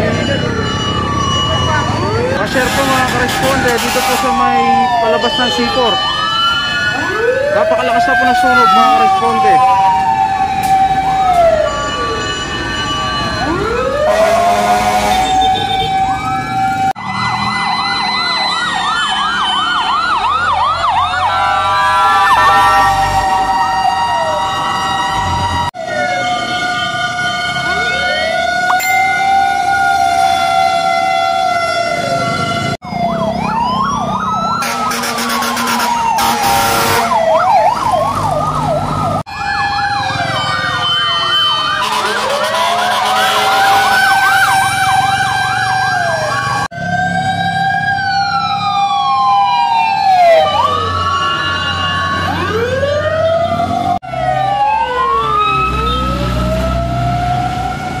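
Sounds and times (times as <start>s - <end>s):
fire truck sirens: 0.0s - 58.0s.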